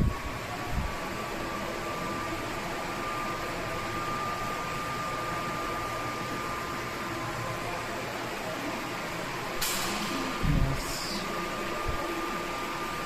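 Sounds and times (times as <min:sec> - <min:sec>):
fan running: 0:00.0 - 0:13.0.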